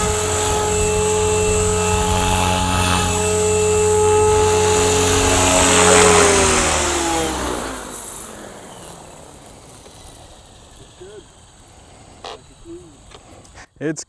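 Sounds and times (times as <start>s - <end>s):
model helicopter rotor spooling down: 0.0s - 13.8s.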